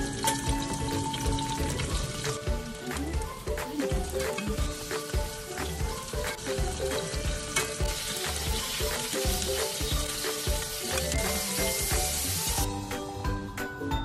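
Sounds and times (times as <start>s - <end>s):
fish sizzling in hot oil: 0.0s - 13.2s
background music with steady beat: 0.0s - 14.0s.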